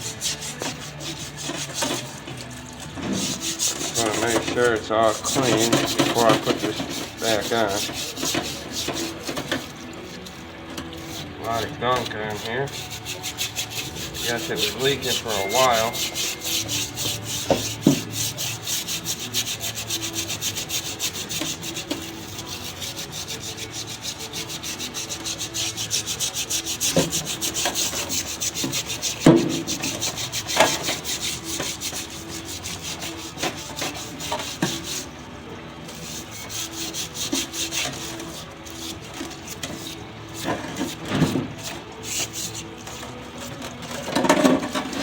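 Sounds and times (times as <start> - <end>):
brush scrubbing metal part: 0.0 - 45.0.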